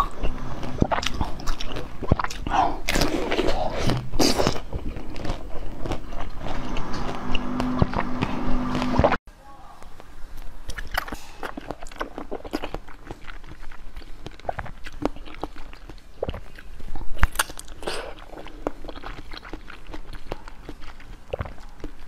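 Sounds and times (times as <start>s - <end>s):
chewing jelly: 0.0s - 9.2s, 10.4s - 22.0s
loud bite: 0.0s - 9.2s, 10.7s - 22.0s.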